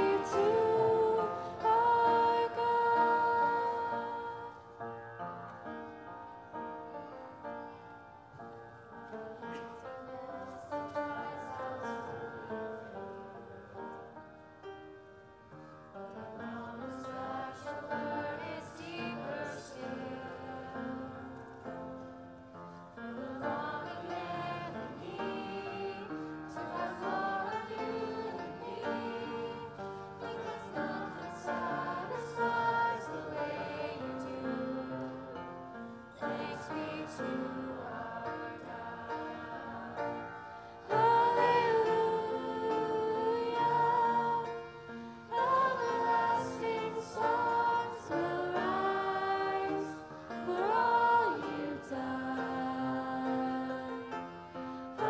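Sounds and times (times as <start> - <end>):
choir singing: 0.0 - 5.0, 9.3 - 14.2, 16.0 - 22.1, 22.9 - 55.0
piano accompaniment: 0.0 - 55.0.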